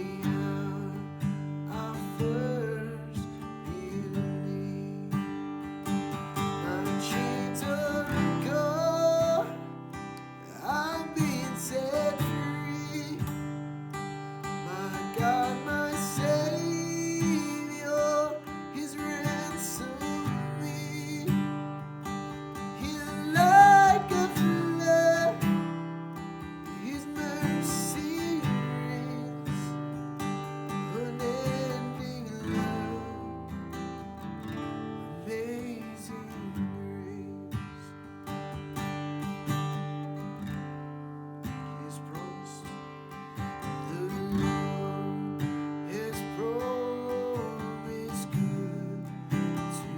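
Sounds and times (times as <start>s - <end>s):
strummed acoustic guitar: 0.0s - 49.9s.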